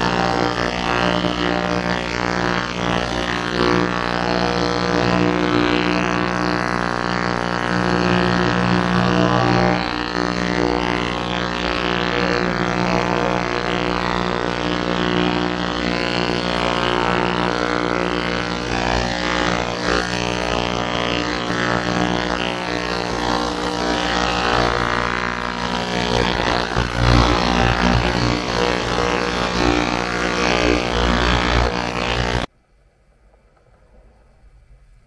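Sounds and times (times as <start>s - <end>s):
ultrasonic cleaner buzzing drone: 0.0s - 32.5s.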